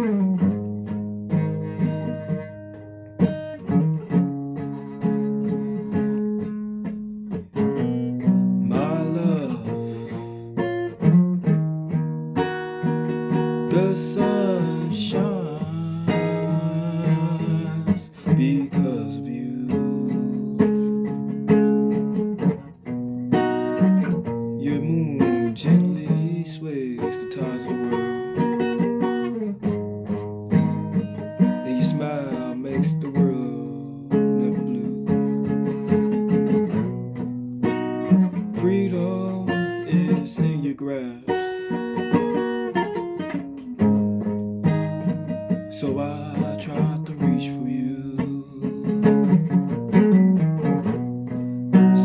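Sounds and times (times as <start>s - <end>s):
guitar playing picked notes: 0.0s - 52.0s.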